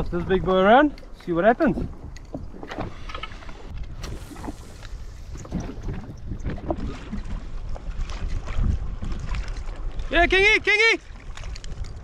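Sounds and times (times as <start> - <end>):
water lapping against hull: 0.0 - 12.0
wind buffeting microphone: 0.0 - 12.0.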